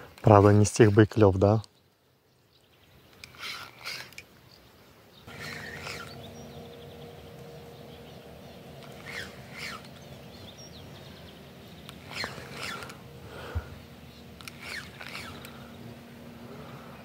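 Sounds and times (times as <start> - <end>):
small birds chirping: 1.2 - 17.0.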